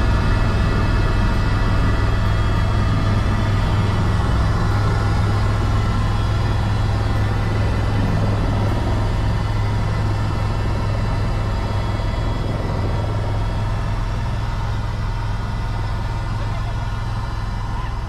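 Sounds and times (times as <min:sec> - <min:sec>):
engine and gearbox whine: 0:00.0 - 0:18.0
helicopter rotor hum: 0:00.0 - 0:18.0.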